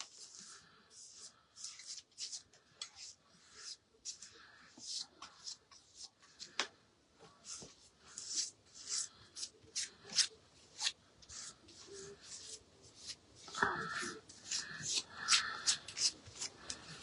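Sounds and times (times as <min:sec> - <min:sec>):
scratchy rubbing strokes on paper: 0:00.0 - 0:06.6, 0:07.3 - 0:17.0.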